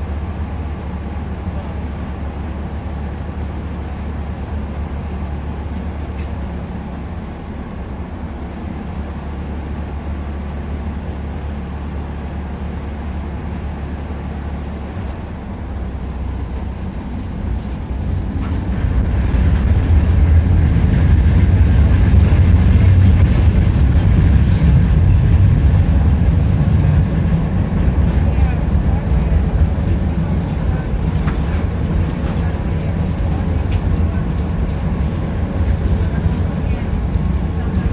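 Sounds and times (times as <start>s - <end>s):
tram wheels rumbling on rails: 0.0s - 37.9s.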